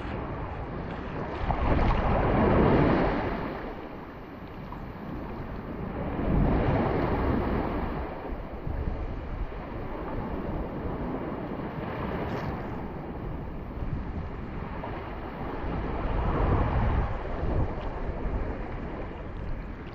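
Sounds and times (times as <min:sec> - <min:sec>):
shallow sea waves washing: 0:00.0 - 0:19.9
wind rumbling on microphone: 0:00.0 - 0:19.9.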